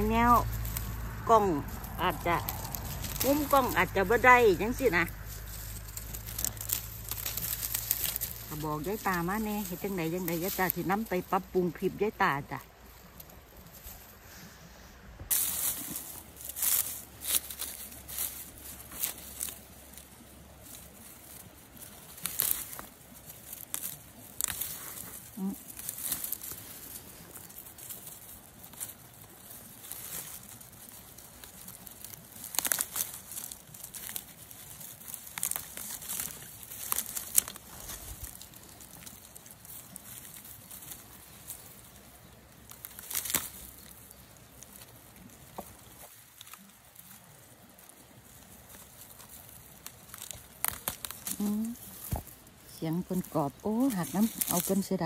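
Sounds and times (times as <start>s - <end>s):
undergrowth rustling and crackling: 0.0s - 55.0s.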